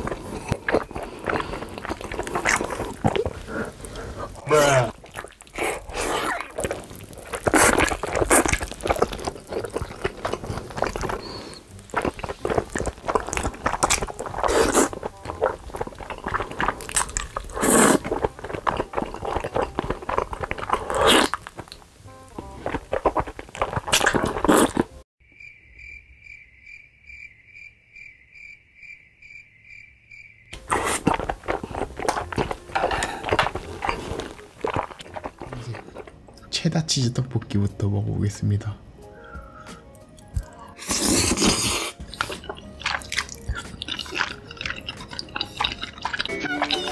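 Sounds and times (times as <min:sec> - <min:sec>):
wet slurping and chewing: 0:00.0 - 0:25.0, 0:30.6 - 0:36.5, 0:39.6 - 0:46.9.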